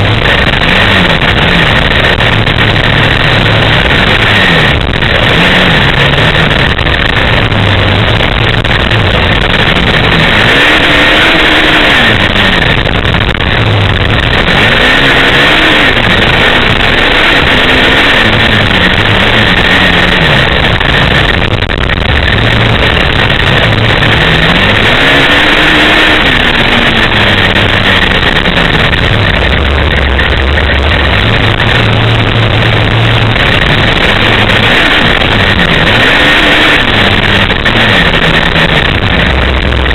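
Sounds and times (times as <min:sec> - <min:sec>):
off-road vehicle engine revving: 0:00.0 - 0:39.9
steady rushing noise: 0:00.0 - 0:39.9.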